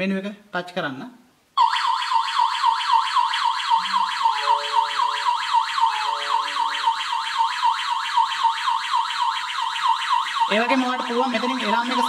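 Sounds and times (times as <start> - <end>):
electronic alarm siren wailing: 1.6 - 12.0.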